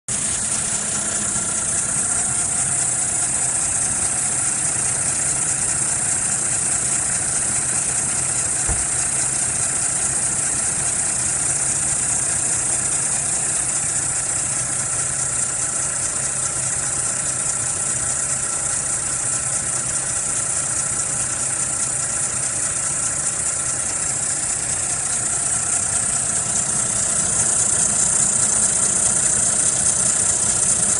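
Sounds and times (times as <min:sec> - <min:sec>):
diesel engine idling: 0:00.1 - 0:30.9.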